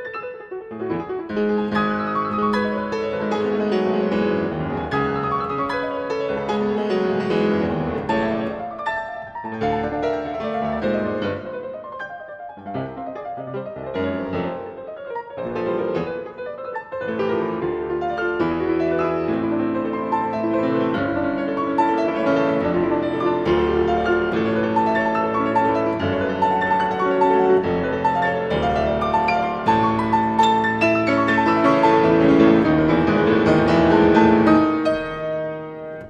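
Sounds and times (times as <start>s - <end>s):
solo piano piece: 0.0s - 36.0s.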